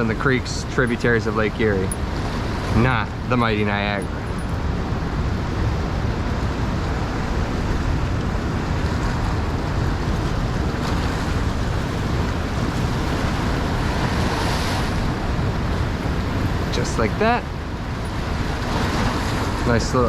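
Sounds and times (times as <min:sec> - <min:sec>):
fast river current rushing: 0:00.0 - 0:20.0
wind on microphone: 0:00.0 - 0:20.0.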